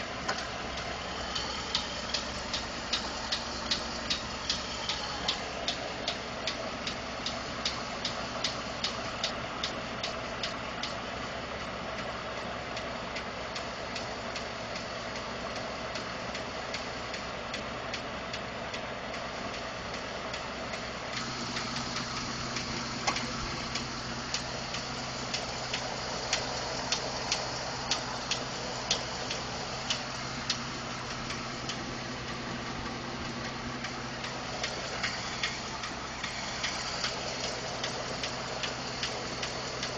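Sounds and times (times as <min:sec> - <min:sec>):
engine idling with ticking knock: 0:00.0 - 0:39.9
steady hum: 0:00.0 - 0:39.9.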